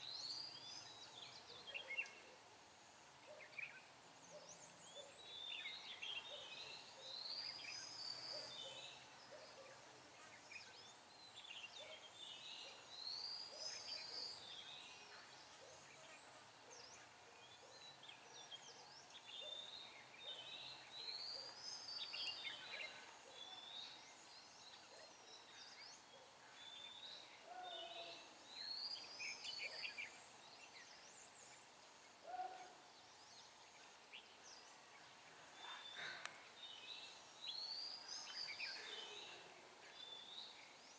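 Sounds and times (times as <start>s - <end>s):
bird chirps: 3.2s - 40.9s
birds singing warbled phrases: 3.2s - 40.9s.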